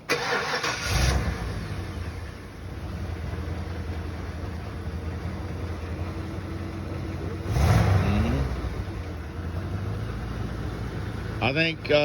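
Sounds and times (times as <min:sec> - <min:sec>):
truck engine idling and revving: 0:00.0 - 0:12.0.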